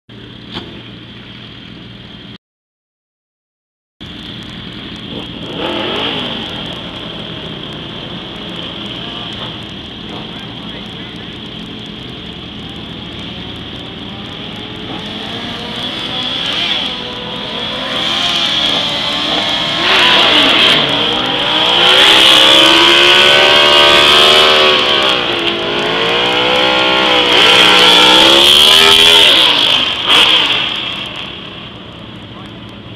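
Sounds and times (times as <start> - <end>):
motorcycle engine revving: 4.9 - 31.5.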